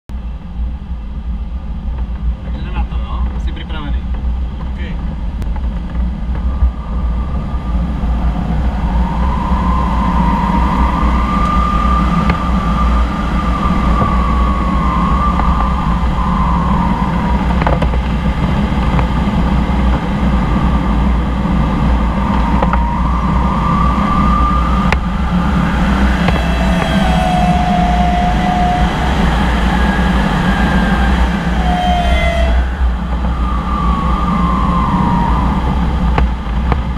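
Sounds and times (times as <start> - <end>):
airflow rushing over glider: 5.2 - 36.9
thin wavering high tone: 6.4 - 36.4.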